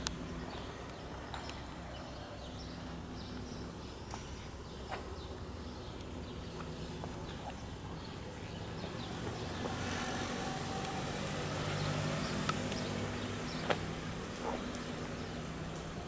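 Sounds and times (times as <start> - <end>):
vehicle engine running: 2.4 - 16.0.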